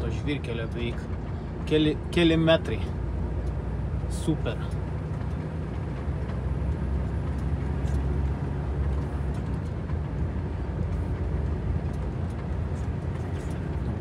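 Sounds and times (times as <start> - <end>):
diesel truck engine and road rumble: 0.0 - 14.0
faint clicks and rattles: 0.2 - 14.0.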